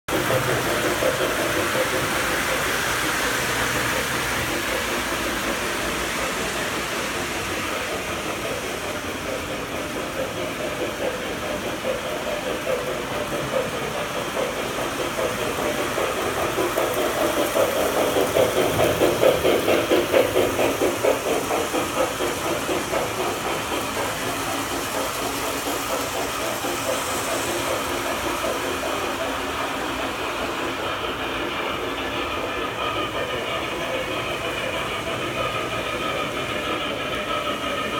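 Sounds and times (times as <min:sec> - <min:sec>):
model trains rumbling on track: 0:00.1 - 0:37.9.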